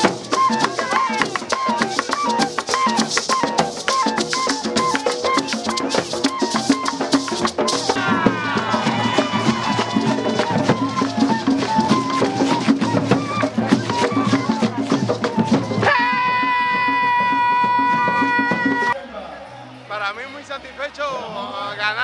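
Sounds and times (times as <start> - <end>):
shaken rattles and drums: 0.0 - 19.0
cumbia music: 0.0 - 21.9.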